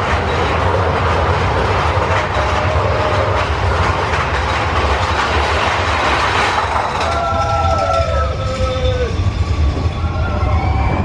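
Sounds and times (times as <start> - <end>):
roller coaster wheels rumbling: 0.0 - 11.0.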